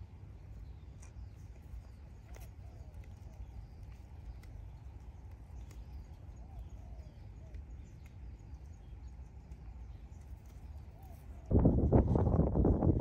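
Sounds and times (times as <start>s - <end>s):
low wind rumble: 0.0s - 13.0s
deer cropping dry grass: 0.6s - 11.5s.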